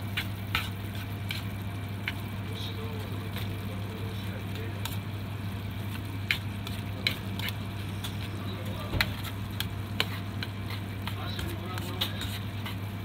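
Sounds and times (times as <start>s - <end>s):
food sizzling in a frying pan: 0.0s - 13.0s
steady low hum: 0.0s - 13.0s.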